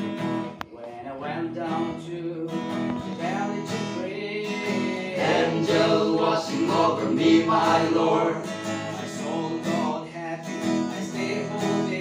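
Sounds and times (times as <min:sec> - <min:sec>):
strummed acoustic guitar: 0:00.0 - 0:12.0
male voices singing gospel: 0:00.9 - 0:12.0.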